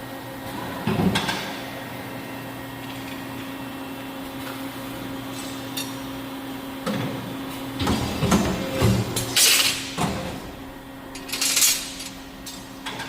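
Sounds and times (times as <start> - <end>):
cnc machine electrical hum: 0.0 - 13.0.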